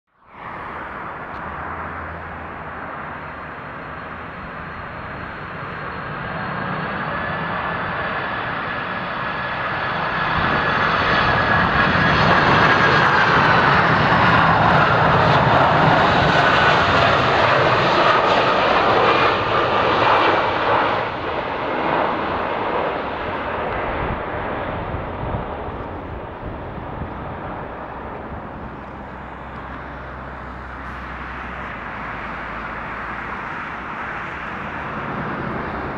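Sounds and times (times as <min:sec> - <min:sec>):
airliner jet engines roaring: 0:00.1 - 0:35.9
high engine whine: 0:00.1 - 0:35.9.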